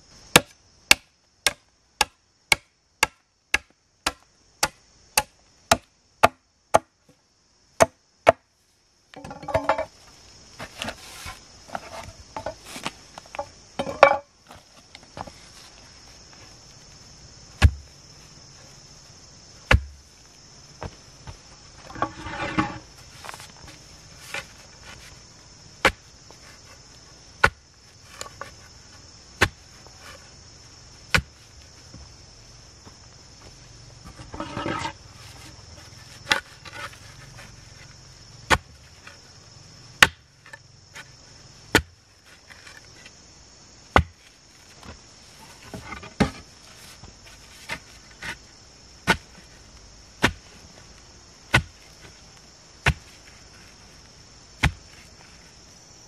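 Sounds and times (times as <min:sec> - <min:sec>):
high insect buzz: 0:00.0 - 0:56.0.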